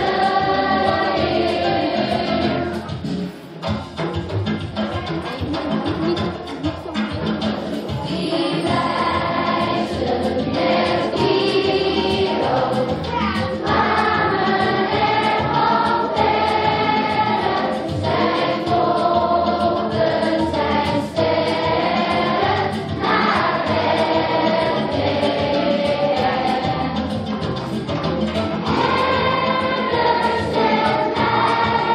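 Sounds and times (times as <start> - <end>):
children's choir singing: 0.0 - 2.9, 7.8 - 27.6, 28.6 - 31.9
instrumental backing music: 0.0 - 31.9.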